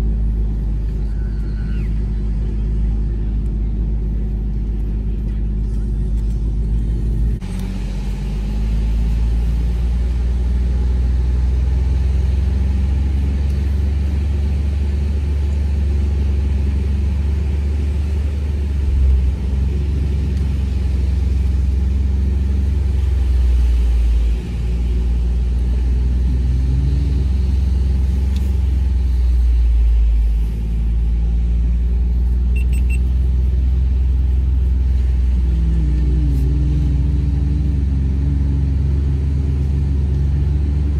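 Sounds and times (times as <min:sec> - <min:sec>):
vehicle engine rumble in sand: 0:00.0 - 0:40.9.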